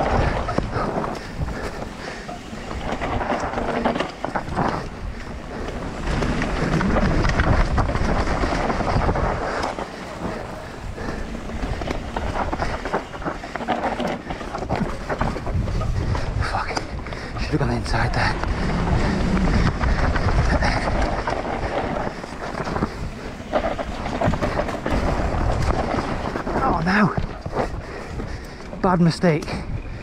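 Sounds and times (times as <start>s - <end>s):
wind rushing over microphone: 0.0s - 28.8s, 29.5s - 30.0s
tyres scrubbing on dirt: 0.0s - 28.9s
bike clattering over bumps: 0.0s - 30.0s.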